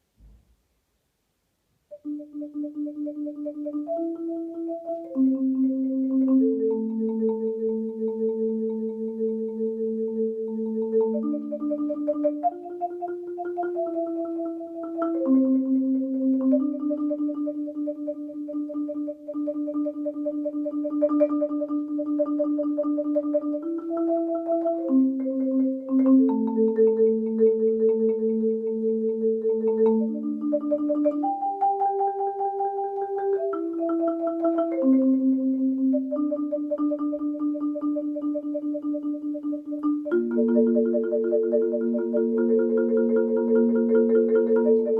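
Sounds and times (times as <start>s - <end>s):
marimba rolled chords: 1.9s - 44.9s.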